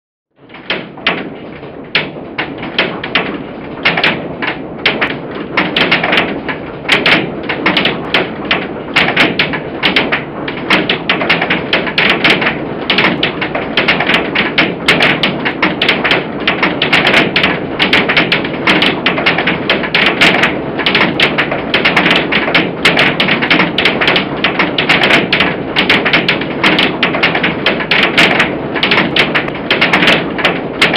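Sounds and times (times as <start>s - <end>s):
rushing wind and rain: 0.6s - 30.9s.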